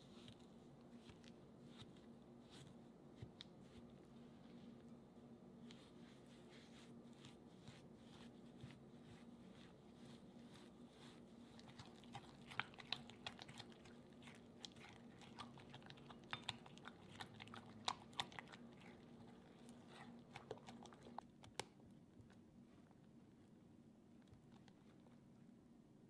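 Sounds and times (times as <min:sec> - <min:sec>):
faint steady low hum: 0:00.0 - 0:26.0.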